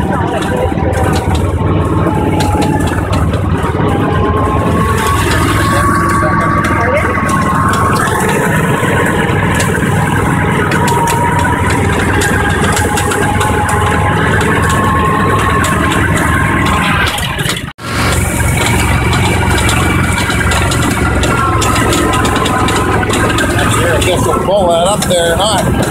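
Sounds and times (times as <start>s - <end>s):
tracked vehicle engine running: 0.0s - 25.9s
wavering whine: 0.0s - 25.9s.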